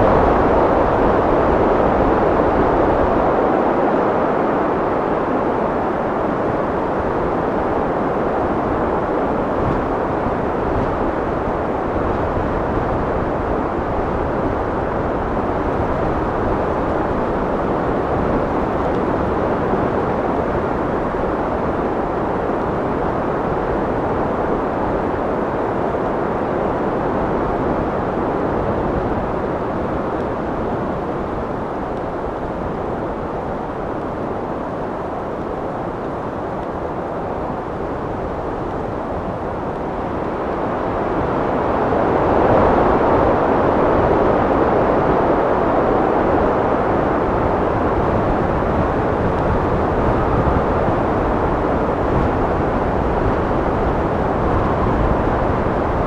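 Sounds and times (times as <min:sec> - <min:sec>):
steady wind: 0:00.0 - 0:56.0.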